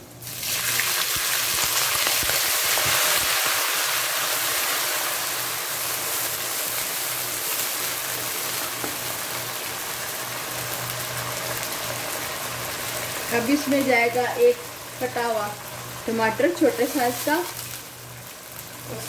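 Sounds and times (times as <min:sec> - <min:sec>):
oil sizzling and spattering: 0:00.2 - 0:19.0.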